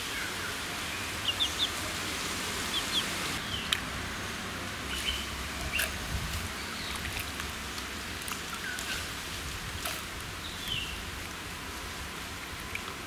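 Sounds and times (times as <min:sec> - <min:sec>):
water splashing and dripping: 0:01.0 - 0:13.0.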